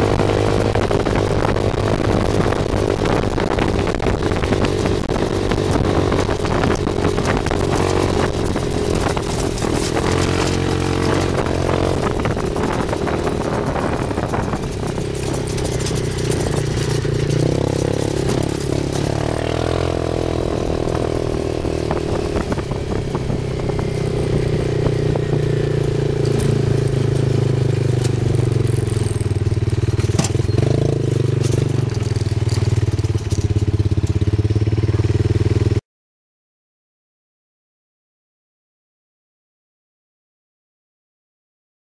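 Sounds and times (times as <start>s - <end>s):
wind noise: 0.0s - 34.0s
rattles from bumpy ride: 0.0s - 35.7s
buggy engine running: 0.0s - 35.8s.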